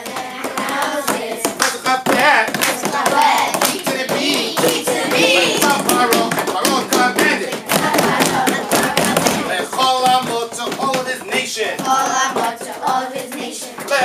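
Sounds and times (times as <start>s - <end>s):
children singing together: 0.0s - 9.8s, 11.7s - 14.0s
clapping and tapping on desks: 0.0s - 14.0s.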